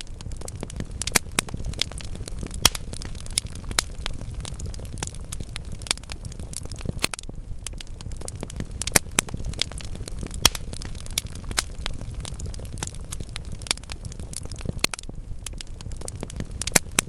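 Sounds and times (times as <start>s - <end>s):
logs crackling and popping: 0.0s - 17.0s
low rumble of fire: 0.0s - 17.0s.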